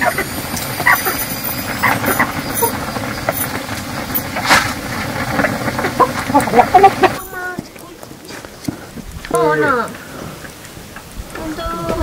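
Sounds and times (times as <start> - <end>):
fire crackling: 0.0 - 12.0
food hissing over wood fire: 0.0 - 12.0.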